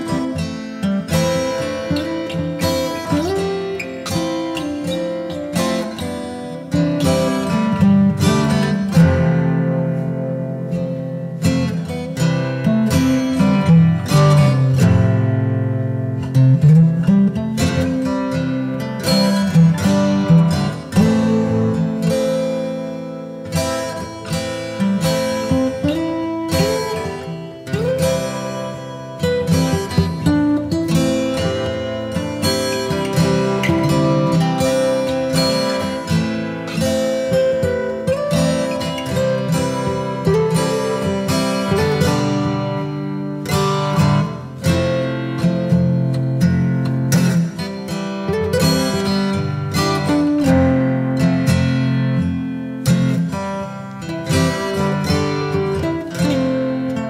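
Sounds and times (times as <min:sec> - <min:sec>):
acoustic guitar plucking: 0:00.0 - 0:57.0.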